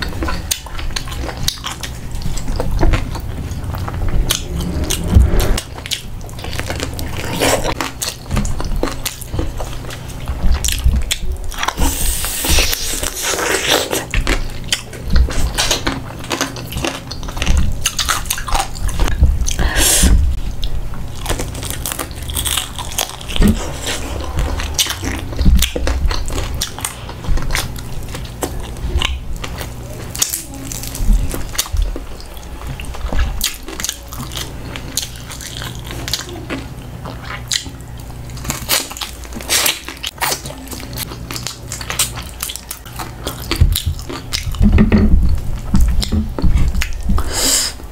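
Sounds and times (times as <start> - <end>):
chewing: 0.0 - 19.7, 20.5 - 47.3.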